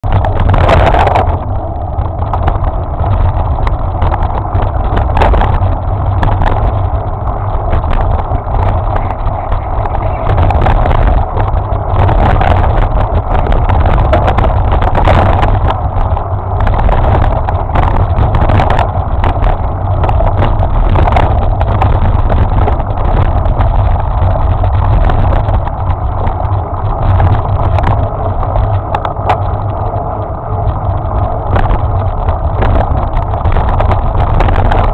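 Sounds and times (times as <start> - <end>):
loud wind rumble: 0.0 - 34.9.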